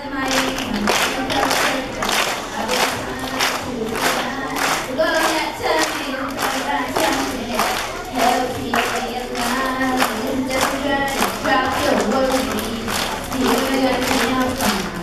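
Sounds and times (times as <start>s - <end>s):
children singing pop song: 0.0s - 15.0s
hand claps: 0.3s - 15.0s.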